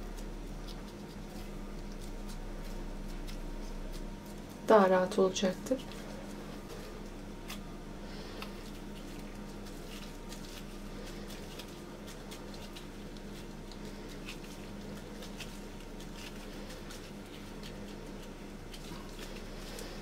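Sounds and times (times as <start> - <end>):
mashed potato squishing: 0.0 - 20.0
steady low hum: 0.0 - 20.0.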